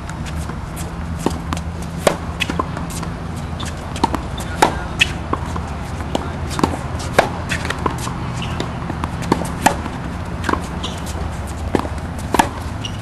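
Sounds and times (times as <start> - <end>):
tennis balls struck and bouncing: 0.0 - 13.0.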